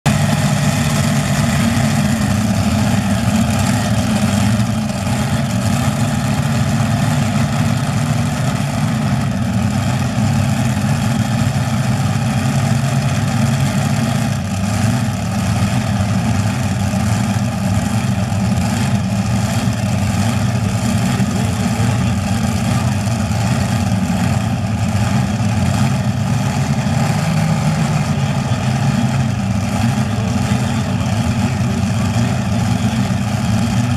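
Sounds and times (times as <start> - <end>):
tractor engines running loud: 0.0 - 33.9.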